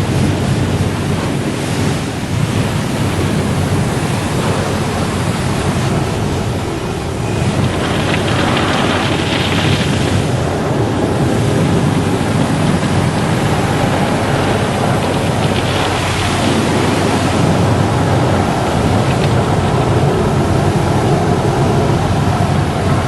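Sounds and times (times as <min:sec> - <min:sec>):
car wash spraying water: 0:00.0 - 0:23.0.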